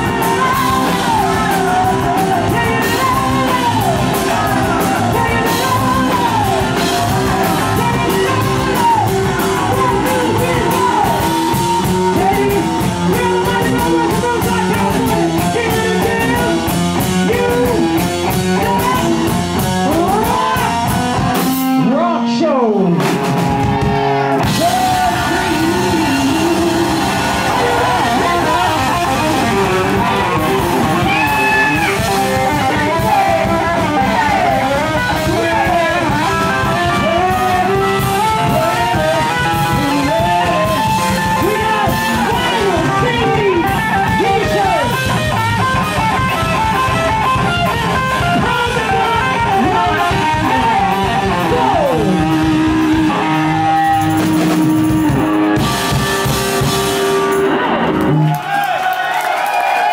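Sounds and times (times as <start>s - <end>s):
pounding drum kit: 0.0s - 22.0s, 22.8s - 59.9s
bass guitar: 0.0s - 59.9s
electric guitars: 0.0s - 59.9s.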